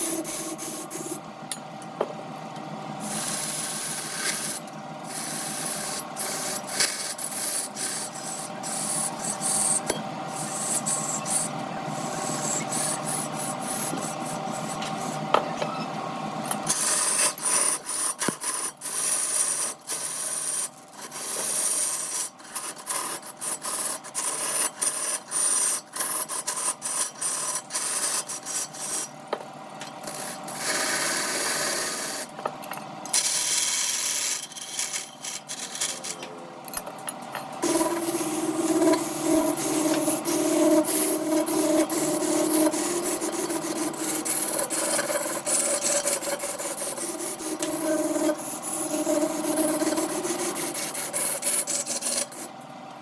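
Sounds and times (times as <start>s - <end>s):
steady hum: 0.0s - 53.0s
lathe tool scraping wood: 3.0s - 15.5s, 16.4s - 29.1s, 33.1s - 36.2s, 37.6s - 52.5s.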